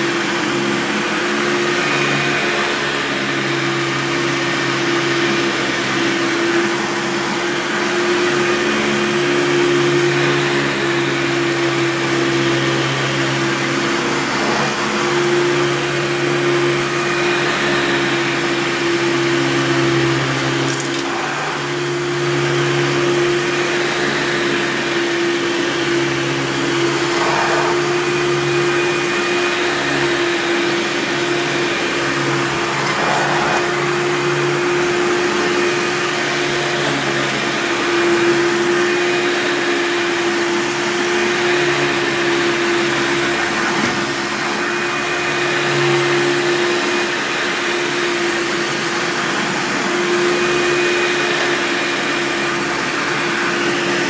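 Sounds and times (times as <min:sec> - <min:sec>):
upright vacuum cleaner running: 0:00.0 - 0:54.0.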